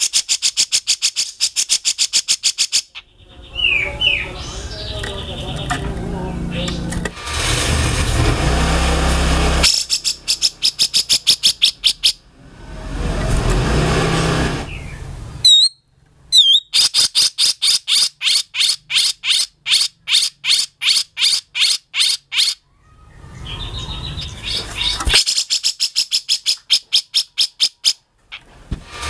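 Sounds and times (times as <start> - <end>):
bird singing harsh raspy song: 0.0 - 7.0, 9.6 - 12.3, 14.6 - 28.4.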